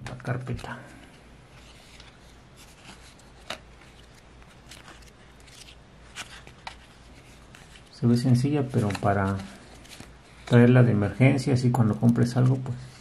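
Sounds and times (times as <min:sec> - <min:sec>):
plastic sleeve pages rustling: 0:00.0 - 0:13.0.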